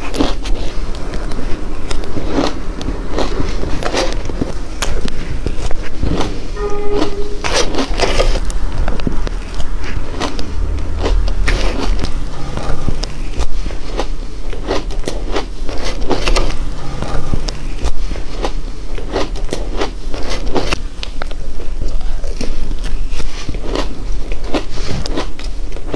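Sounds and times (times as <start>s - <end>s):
ice crunching while chewed: 0.0s - 5.9s, 11.0s - 25.9s.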